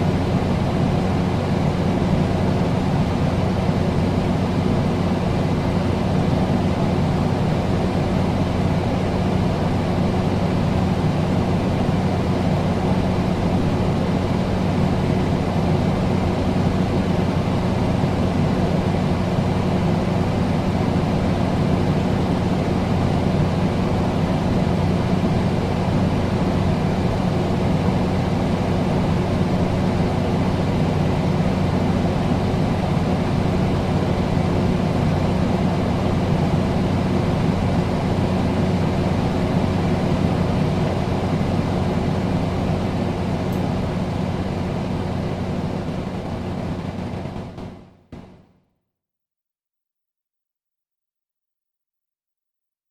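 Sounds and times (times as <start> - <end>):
air conditioner running: 0.0 - 48.3.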